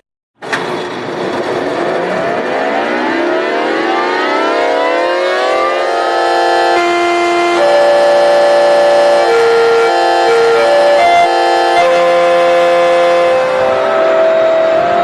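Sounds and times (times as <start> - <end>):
air raid siren winding up: 1.9 - 15.0.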